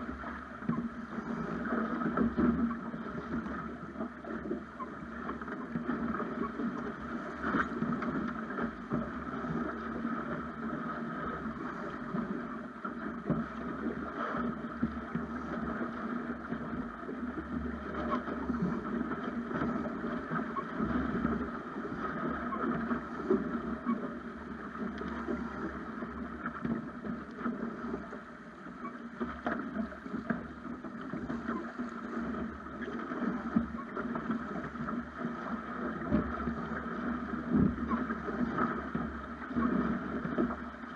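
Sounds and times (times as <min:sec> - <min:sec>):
water splashing along hull: 0:00.0 - 0:40.9.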